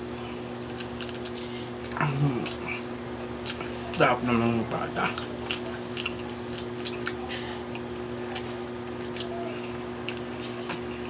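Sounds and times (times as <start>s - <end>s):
steady low hum: 0.0s - 11.0s
chewing with wet smacks: 0.3s - 4.2s, 4.9s - 11.0s.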